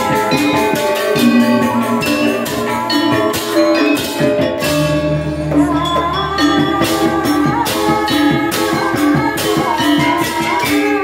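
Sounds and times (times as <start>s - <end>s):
hand cymbals: 0.0s - 11.0s
metallophones struck with mallets: 0.0s - 11.0s.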